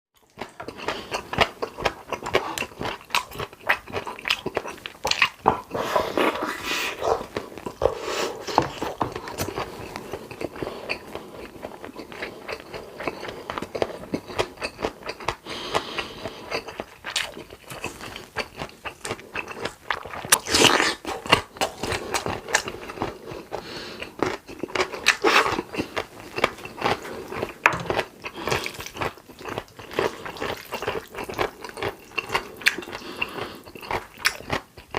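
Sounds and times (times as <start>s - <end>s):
chewing and biting: 0.2s - 34.9s.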